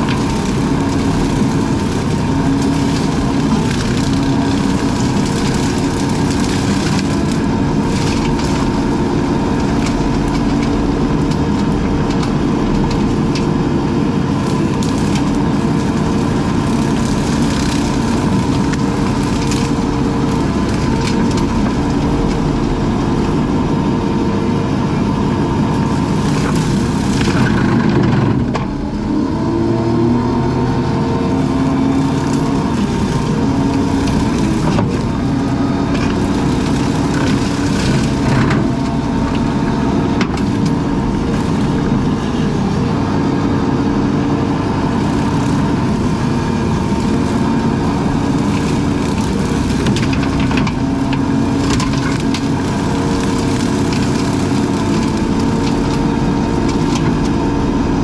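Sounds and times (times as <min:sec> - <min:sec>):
brush cutter cracking wood: 0:00.0 - 0:24.2, 0:25.3 - 0:28.2, 0:31.3 - 0:42.9, 0:44.1 - 0:58.0
skid steer engine under load: 0:00.0 - 0:58.0.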